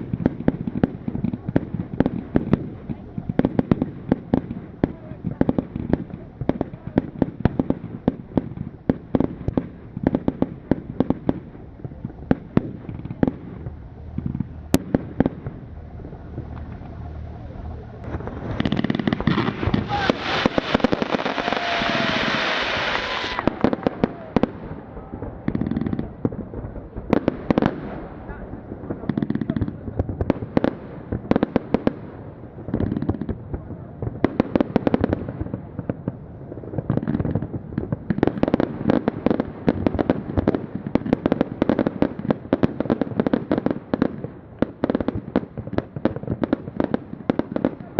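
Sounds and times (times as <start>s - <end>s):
fireworks bangs: 0.0s - 47.9s
fireworks crackling hiss: 0.0s - 47.9s.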